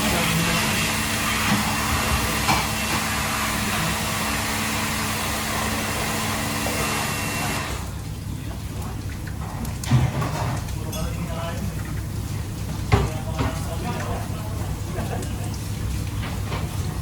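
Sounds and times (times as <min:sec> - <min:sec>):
fan whirring with hum: 0:00.0 - 0:17.0.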